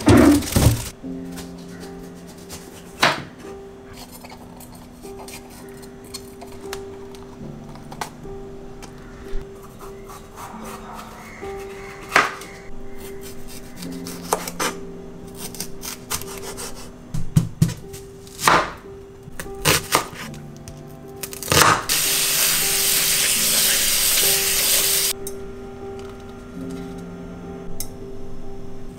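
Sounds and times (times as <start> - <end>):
soft background music: 0.0 - 28.9.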